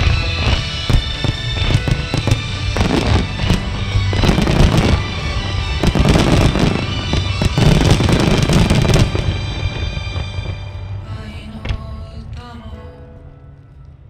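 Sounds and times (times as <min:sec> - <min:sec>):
fireworks crackling and booming: 0:00.0 - 0:11.8
song playing: 0:00.0 - 0:13.4.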